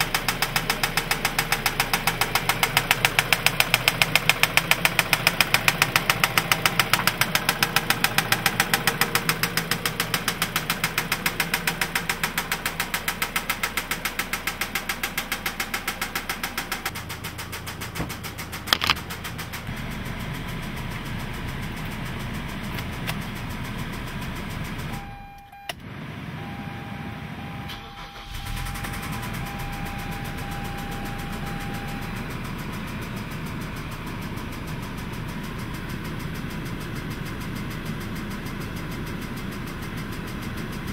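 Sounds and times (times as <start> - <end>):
car engine knocking: 0.0 - 25.3, 28.1 - 40.9.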